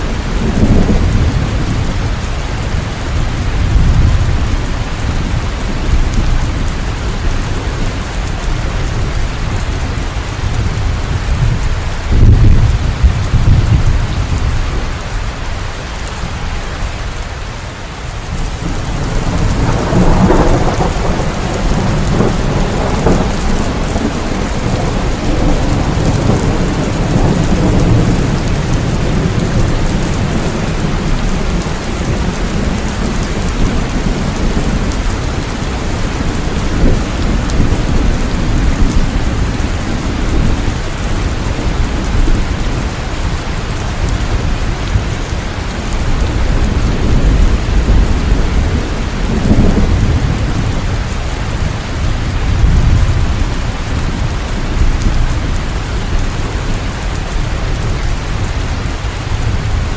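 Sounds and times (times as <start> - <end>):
rolling thunder: 0.0 - 17.2, 18.2 - 59.9
heavy rain: 0.0 - 59.9.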